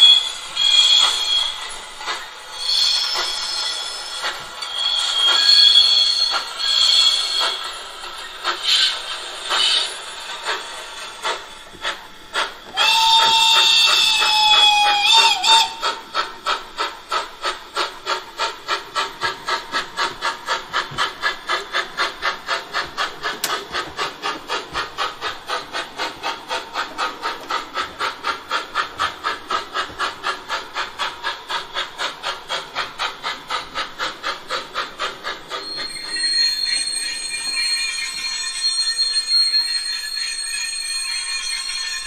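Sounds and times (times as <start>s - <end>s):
model locomotive steam chuffing: 0.0s - 42.0s.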